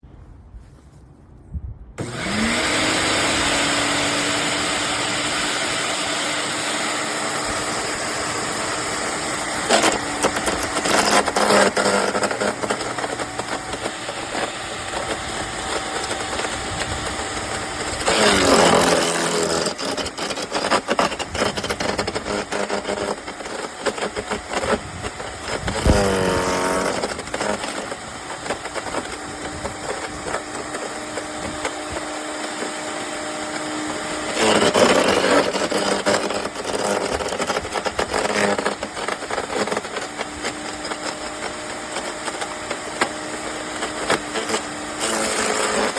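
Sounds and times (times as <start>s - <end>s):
wood chipper motor running: 2.0s - 45.9s
crackling of chipping material: 3.5s - 45.9s.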